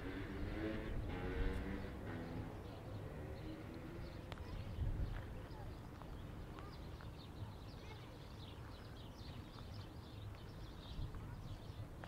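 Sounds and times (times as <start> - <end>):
small birds chirping: 1.6 - 12.0.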